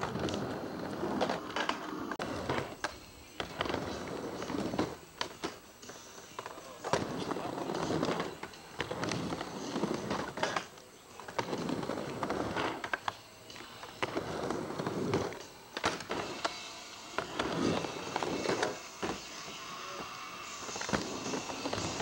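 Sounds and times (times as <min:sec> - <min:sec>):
skateboard clacks: 0:00.0 - 0:22.0
skateboard wheels rolling on ramp: 0:00.0 - 0:22.0.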